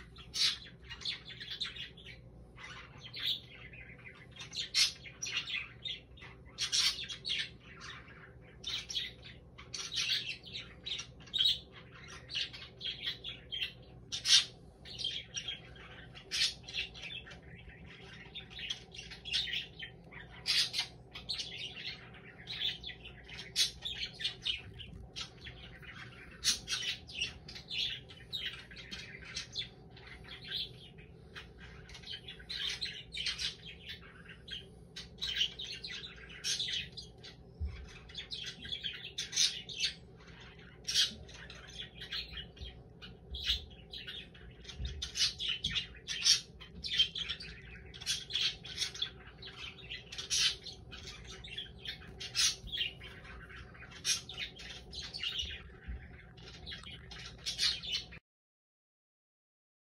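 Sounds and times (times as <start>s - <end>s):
birds chirping and squawking: 0.0s - 58.2s
faint steady hum: 0.0s - 58.2s.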